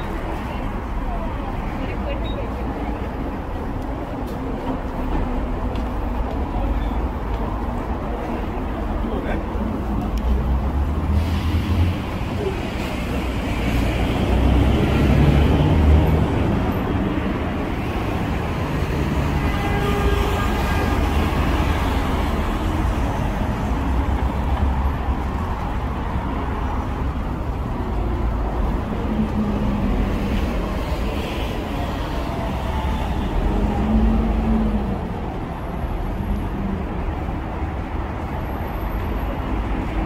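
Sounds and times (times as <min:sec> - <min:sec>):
rumble of passing vehicles: 0:00.0 - 0:40.0.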